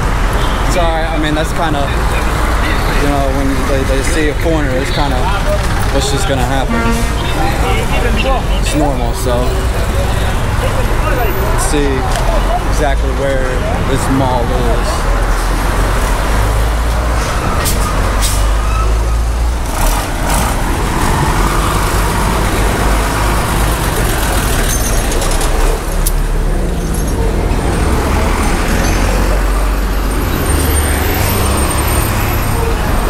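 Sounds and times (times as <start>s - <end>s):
traffic low rumble: 0.0s - 33.0s
vehicles passing: 0.0s - 33.0s.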